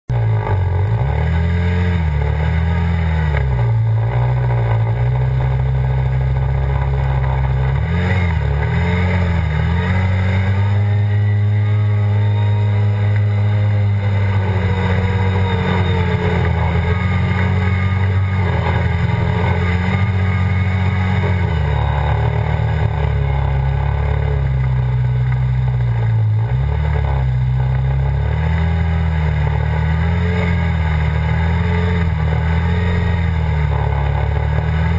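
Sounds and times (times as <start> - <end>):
off-road vehicle engine revving: 0.1 - 34.9.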